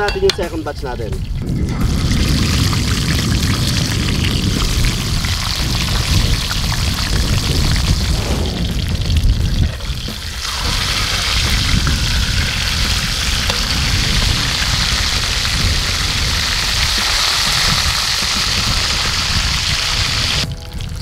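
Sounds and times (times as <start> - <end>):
fish sizzling in hot oil: 1.7 - 7.9, 9.8 - 20.4.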